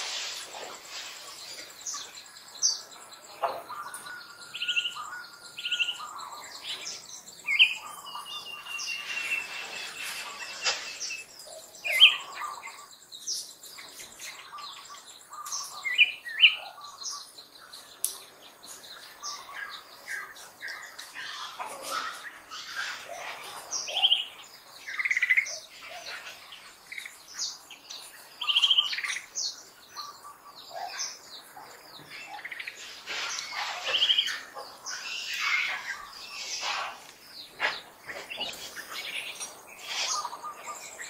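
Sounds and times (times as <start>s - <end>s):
birds chirping: 0.0s - 41.0s
faint high insect hum: 0.0s - 41.0s.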